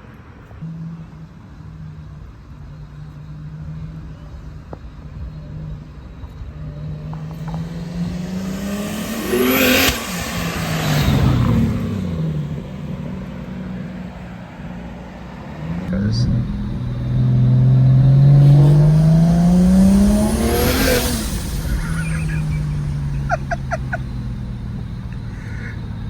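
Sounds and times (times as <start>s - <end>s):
turbocharged car engine revving: 0.7s - 26.0s.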